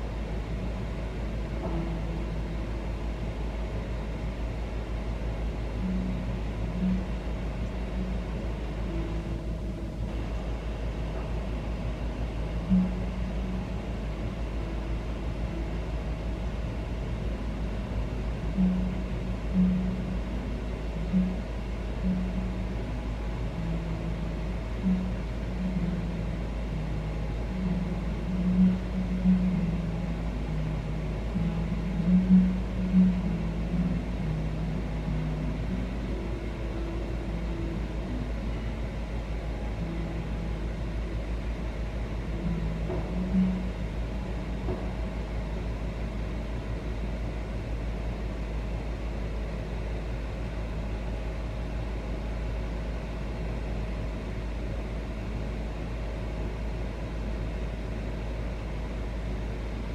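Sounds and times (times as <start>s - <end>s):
low droning hum: 0.0s - 59.9s.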